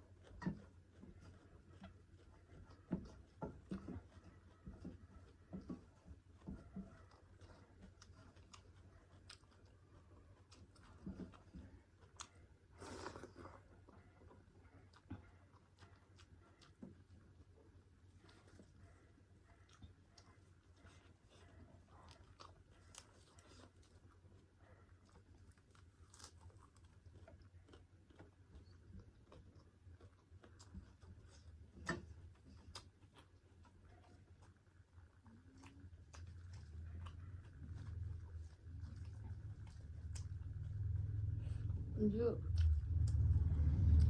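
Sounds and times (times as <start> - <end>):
chewing with soft clicks and smacks: 0.0 - 44.0.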